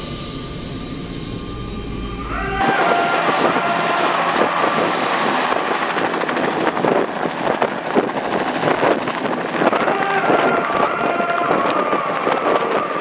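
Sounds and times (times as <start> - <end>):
helicopter turbine whine and rotor: 0.0 - 13.0.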